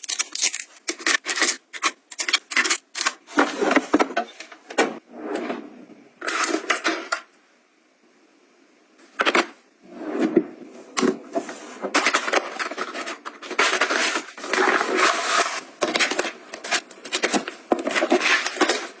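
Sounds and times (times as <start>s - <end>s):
rubbing and scraping of items: 0.0s - 7.3s, 9.0s - 19.0s.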